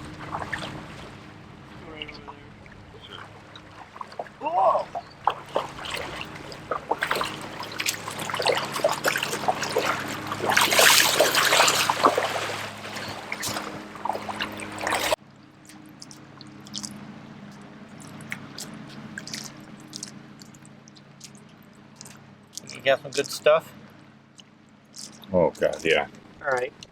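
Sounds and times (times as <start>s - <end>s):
water splashing and dripping: 0.0s - 23.6s, 24.4s - 26.0s
steady water sound: 0.0s - 26.9s.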